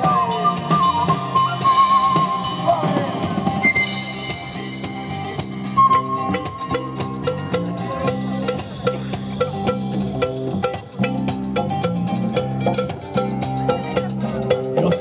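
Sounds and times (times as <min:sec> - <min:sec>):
latin band dance music: 0:00.0 - 0:15.0.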